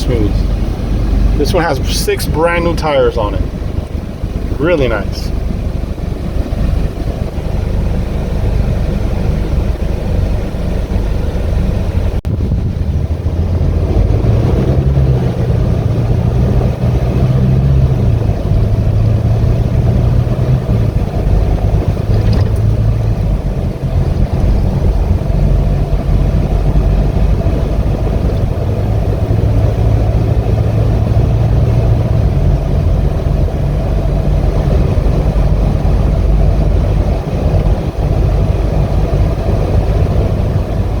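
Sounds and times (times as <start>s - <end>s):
road and tire noise: 0.0s - 41.0s
truck engine under load: 0.0s - 41.0s.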